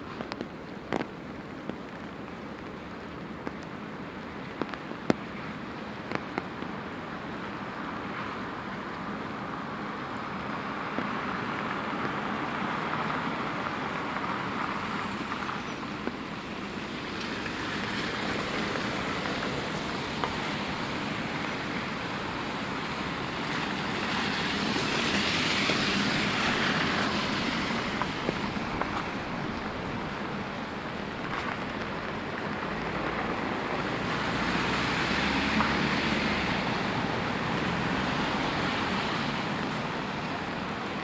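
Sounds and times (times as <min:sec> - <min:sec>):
tyres hissing on wet road: 0:00.0 - 0:41.0.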